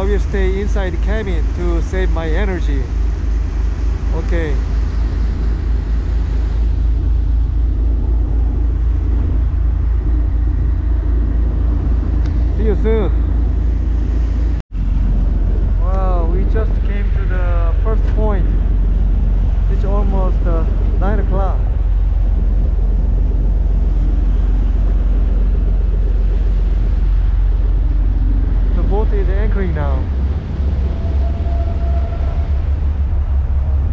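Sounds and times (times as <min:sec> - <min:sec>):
boat engine rumbling: 0:00.0 - 0:33.9
wake washing: 0:00.0 - 0:33.9
wind on microphone: 0:00.0 - 0:33.9.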